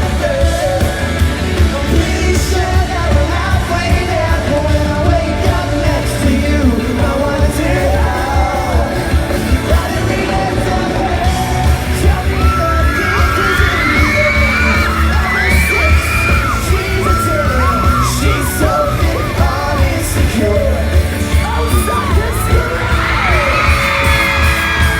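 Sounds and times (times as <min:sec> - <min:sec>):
audience yelling along: 0:00.0 - 0:24.9
high voices singing or shouting: 0:00.0 - 0:24.9
pop-punk band playing live: 0:00.0 - 0:24.9.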